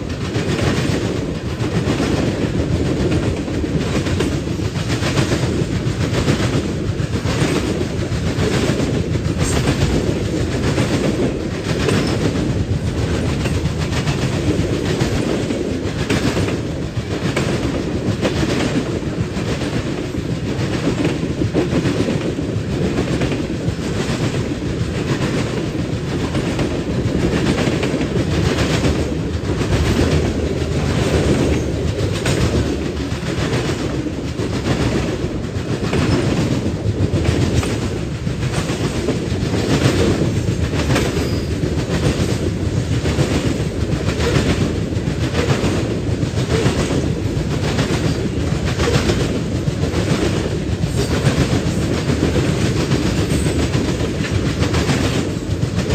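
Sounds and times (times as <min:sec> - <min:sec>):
steel wheels rumbling on rail: 0:00.0 - 0:55.9
wheels clacking over rail joints: 0:00.0 - 0:55.9.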